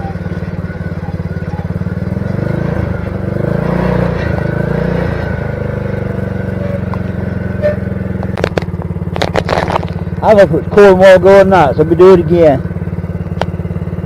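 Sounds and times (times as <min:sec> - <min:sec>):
motorized bicycle engine running: 0:00.0 - 0:04.7, 0:05.4 - 0:14.0.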